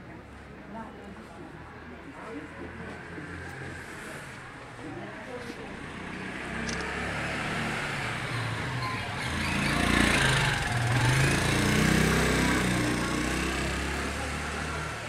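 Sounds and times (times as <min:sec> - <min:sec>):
busy street noise: 0:00.0 - 0:15.0.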